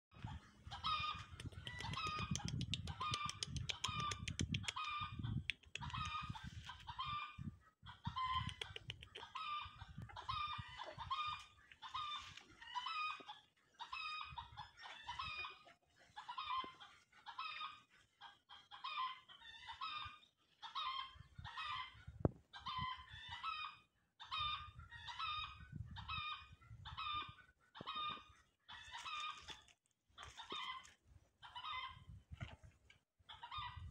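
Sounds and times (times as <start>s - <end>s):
chickens clucking: 0.2s - 32.6s.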